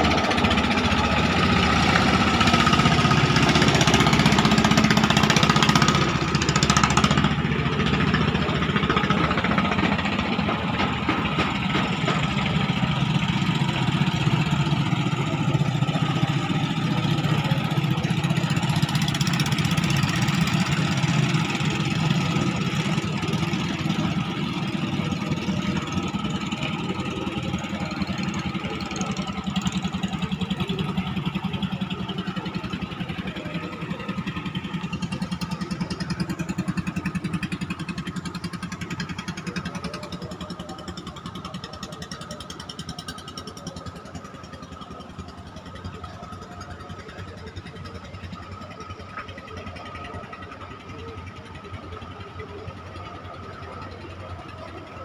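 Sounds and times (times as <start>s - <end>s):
small motorboat engine running: 0.0s - 55.0s.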